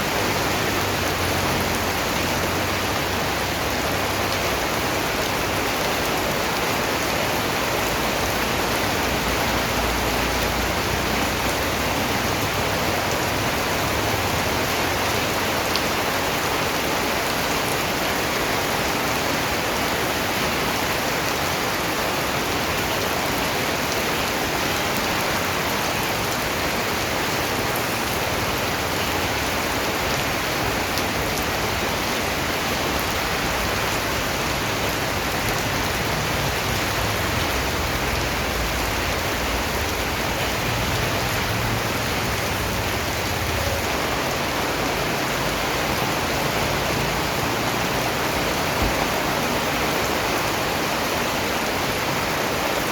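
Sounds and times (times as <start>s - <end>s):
rain pattering on a surface: 0.0s - 52.9s.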